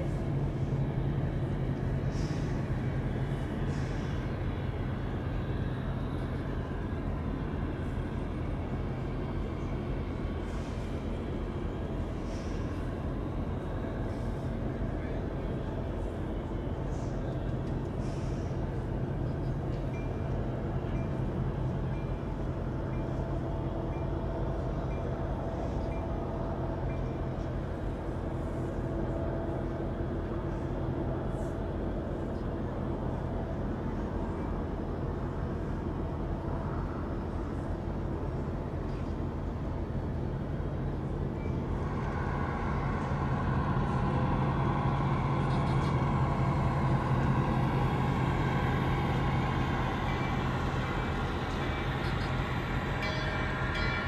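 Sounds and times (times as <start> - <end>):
model trains humming: 0.0 - 54.0.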